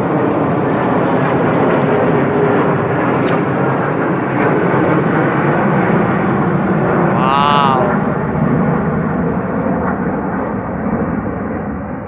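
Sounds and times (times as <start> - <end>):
jets passing overhead: 0.0 - 12.0.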